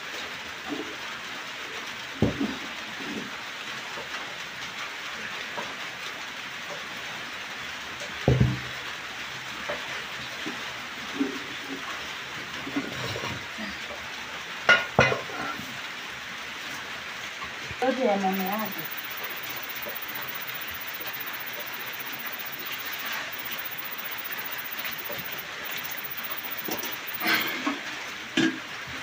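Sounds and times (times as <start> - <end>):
rain hissing: 0.0 - 14.7, 15.3 - 29.0.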